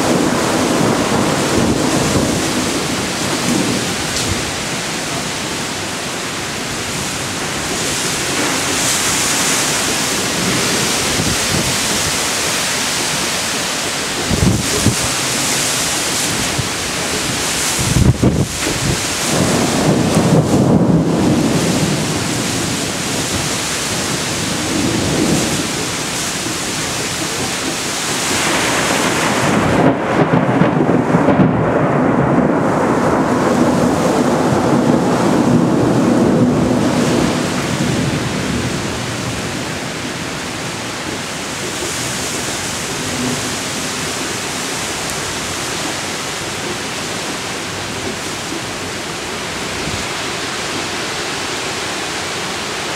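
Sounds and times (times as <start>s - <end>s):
thunder rumbling: 0.0s - 51.1s
heavy rain: 0.0s - 52.9s.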